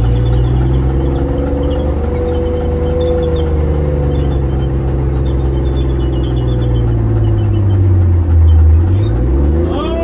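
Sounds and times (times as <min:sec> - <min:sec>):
tank engine droning: 0:00.0 - 0:10.0.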